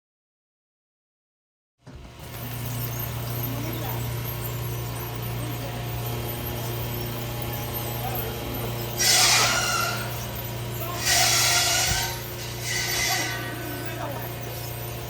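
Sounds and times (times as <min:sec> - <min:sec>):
sawmill engine running: 0:01.9 - 0:15.0.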